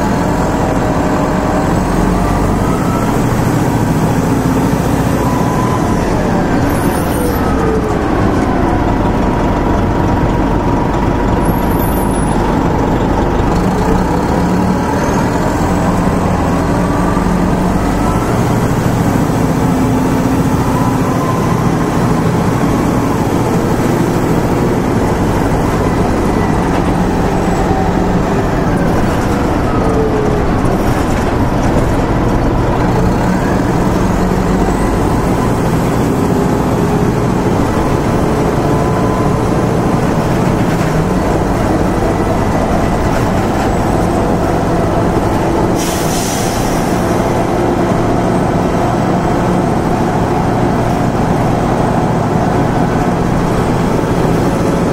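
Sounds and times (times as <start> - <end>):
bus engine running: 0.0 - 54.9.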